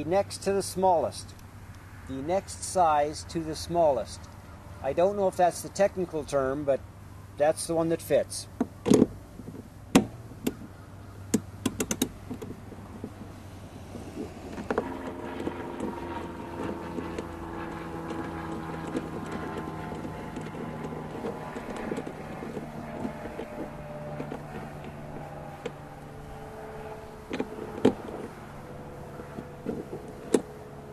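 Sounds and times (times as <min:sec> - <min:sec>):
engine-like drone with hum: 0:00.0 - 0:30.9.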